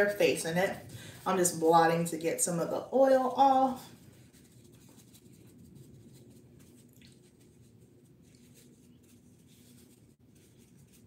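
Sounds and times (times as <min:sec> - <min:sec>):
faint room hum: 0:00.0 - 0:11.0
soft tissue rustles: 0:00.0 - 0:11.0.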